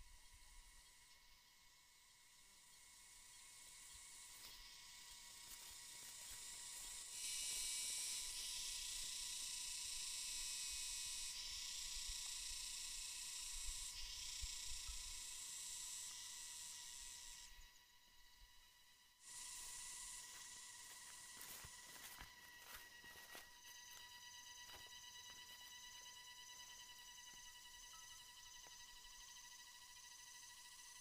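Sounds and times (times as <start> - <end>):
faint steady whine: 0.0 - 31.0
insects buzzing: 0.0 - 31.0.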